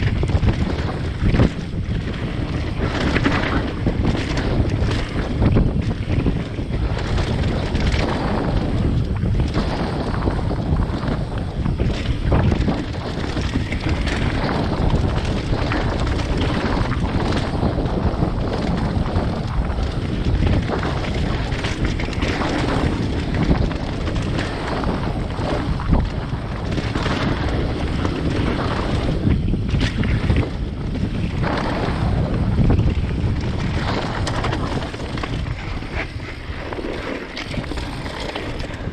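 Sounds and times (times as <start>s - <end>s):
bike knocking and rattling: 0.0s - 38.9s
wind rushing over microphone: 0.0s - 38.9s.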